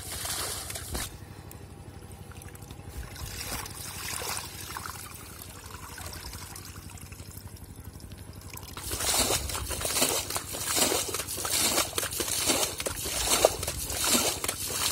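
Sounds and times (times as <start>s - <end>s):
soft water splashes: 2.0s - 14.9s
water trickling through basket: 2.2s - 14.9s.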